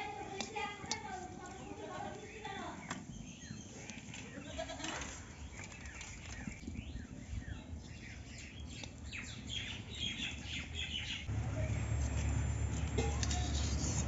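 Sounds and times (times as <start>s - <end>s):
birds chirping falling calls: 0.0s - 11.9s.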